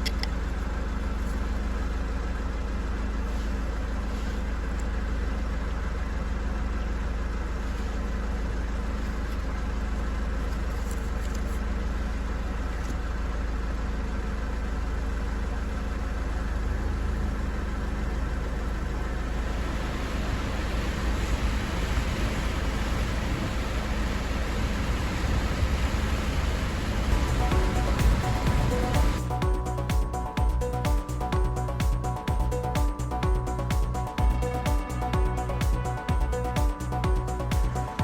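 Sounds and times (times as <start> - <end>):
car idling: 0.0 - 38.0.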